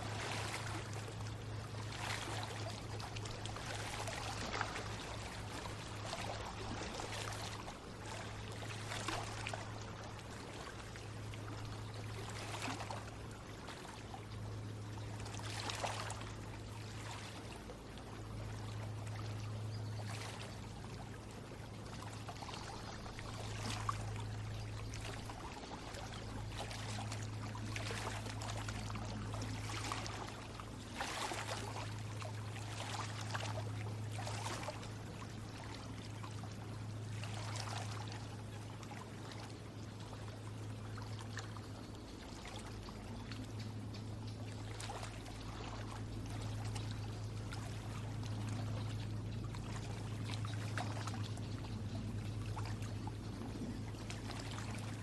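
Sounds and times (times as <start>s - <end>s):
steady low hum: 0.0s - 55.0s
water trickling and splashing: 0.0s - 55.0s.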